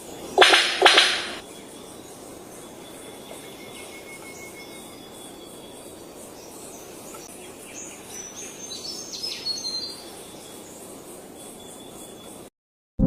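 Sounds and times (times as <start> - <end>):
birds chirping: 0.0 - 12.5
steady background hiss: 0.0 - 12.5.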